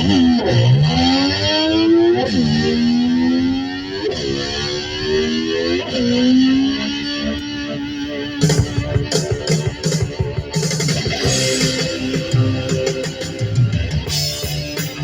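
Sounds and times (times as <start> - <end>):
distorted electric slide guitar: 0.0 - 15.0.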